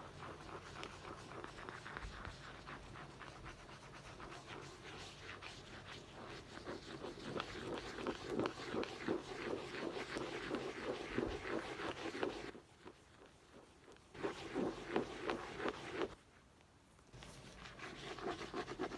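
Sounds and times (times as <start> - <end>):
rapid scratching on a book: 0.0 - 16.2, 17.2 - 18.9.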